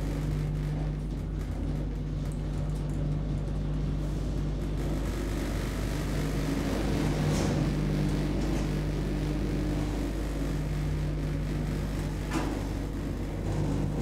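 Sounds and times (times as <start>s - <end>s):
elevator humming: 0.0s - 14.0s.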